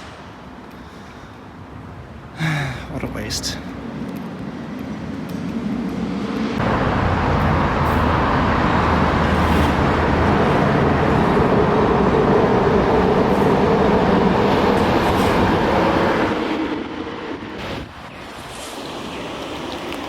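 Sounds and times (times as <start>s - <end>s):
train passing with humming tone: 3.0s - 20.0s.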